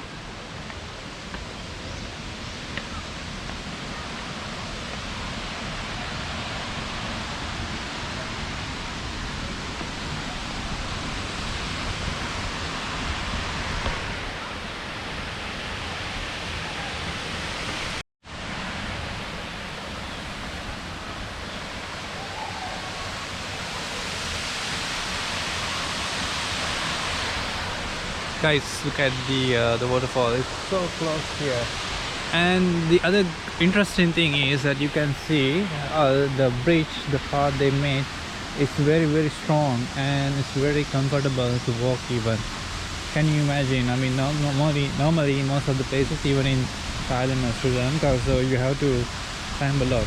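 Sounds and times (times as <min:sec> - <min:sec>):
waterfall roaring: 0:00.0 - 0:50.0.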